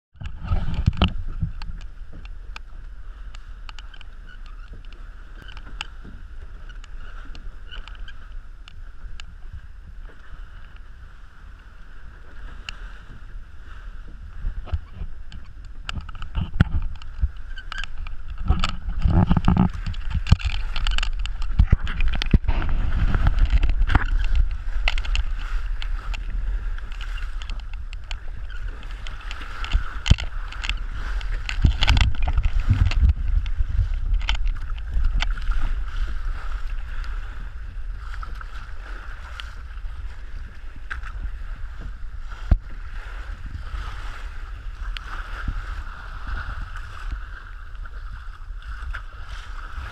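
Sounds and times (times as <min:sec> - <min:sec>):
water rushing along hull: 0:00.1 - 0:49.9
wind buffeting microphone: 0:00.1 - 0:49.9
waves splashing against boat: 0:00.2 - 0:49.9.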